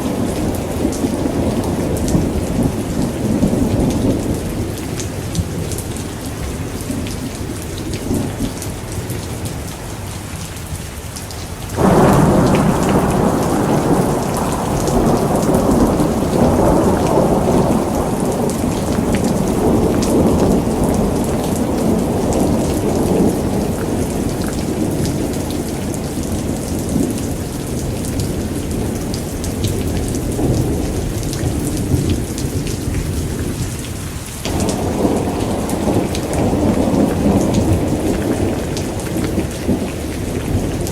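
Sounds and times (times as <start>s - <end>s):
thunder clap and rumble: 0.0s - 9.7s, 11.7s - 40.9s
steady rain: 0.0s - 40.9s.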